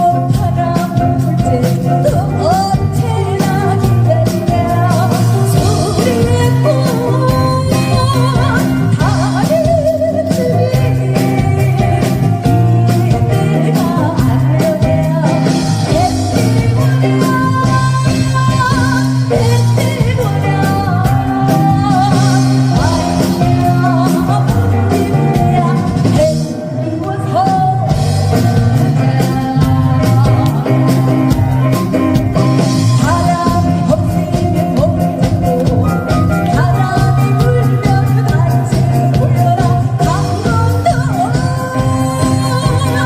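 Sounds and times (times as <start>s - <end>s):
band playing steady beat: 0.0s - 43.0s
person singing melody: 0.0s - 43.0s.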